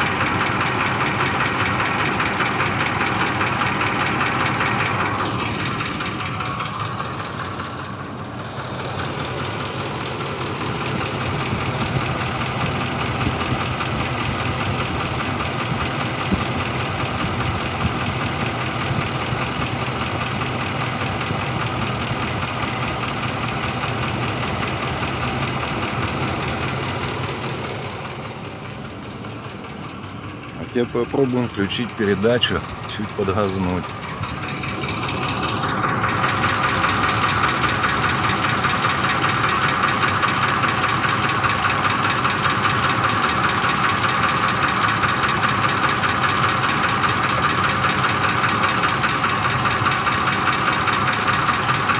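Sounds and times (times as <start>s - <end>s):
engine idling with knock: 0.0s - 51.9s.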